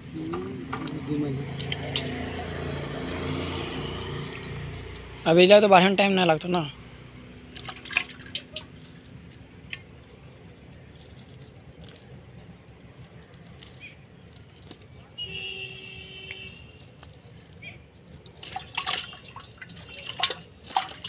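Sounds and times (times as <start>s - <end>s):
wet clicks and drips: 0.0s - 5.1s, 7.5s - 14.9s, 16.2s - 21.0s.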